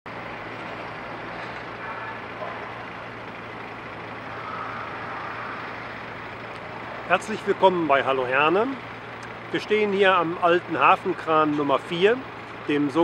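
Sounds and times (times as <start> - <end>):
distant road vehicles: 0.1 - 13.0.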